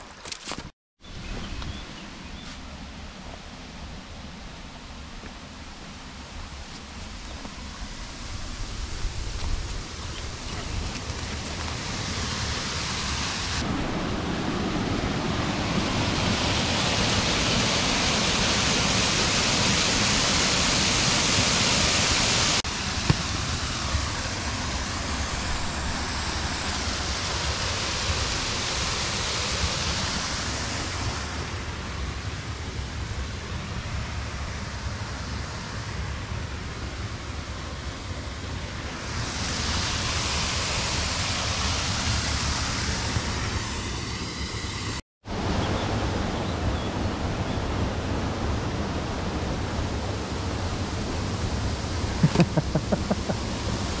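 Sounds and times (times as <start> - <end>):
small waterfall rushing: 1.5 - 54.0.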